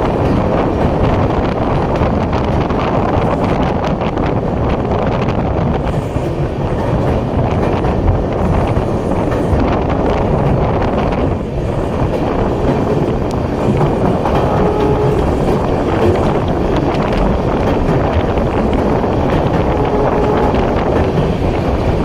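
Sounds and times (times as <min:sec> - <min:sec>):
train rumbling on bridge: 0:00.0 - 0:22.0
wind buffeting microphone: 0:00.0 - 0:22.0.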